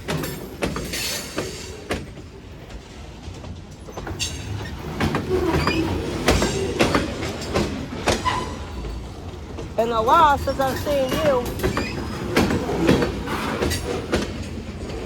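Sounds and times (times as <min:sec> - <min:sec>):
low train rumble: 0:00.0 - 0:15.0
train wheels clacking over rail joints: 0:00.0 - 0:15.0.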